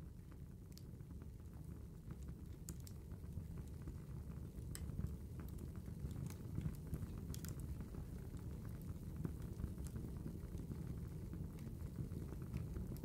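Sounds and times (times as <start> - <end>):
wood fire crackling: 0.1 - 13.0.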